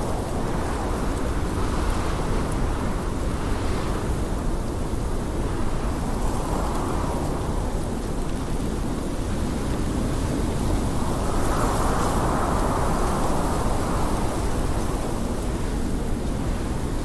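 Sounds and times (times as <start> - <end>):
blizzard wind howling: 0.0 - 17.0.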